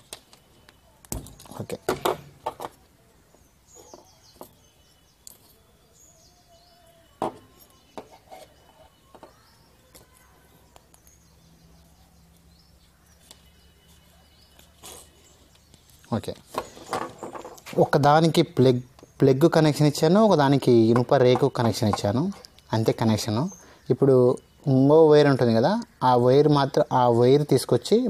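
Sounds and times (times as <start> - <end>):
bird chirps: 3.3 - 27.5.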